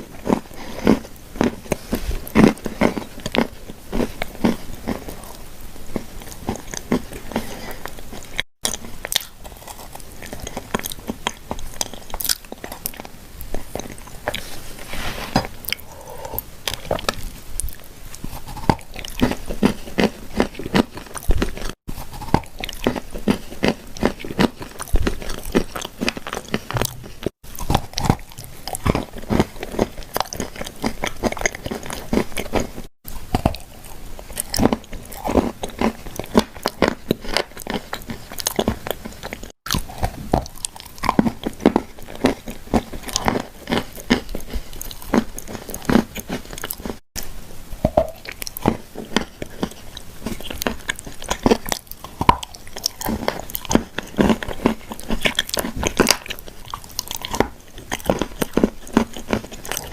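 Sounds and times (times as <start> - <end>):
crunchy chewing of cookies: 0.0 - 59.9.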